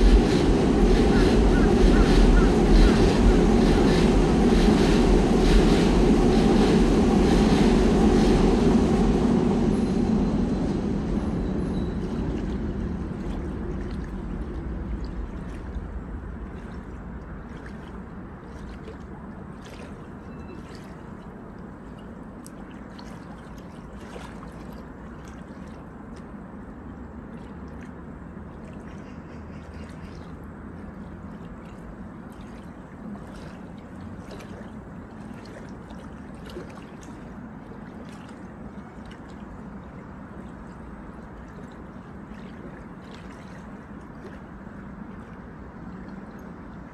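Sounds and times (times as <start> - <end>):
river water lapping: 0.0 - 46.9
steady low rumble: 0.0 - 46.9.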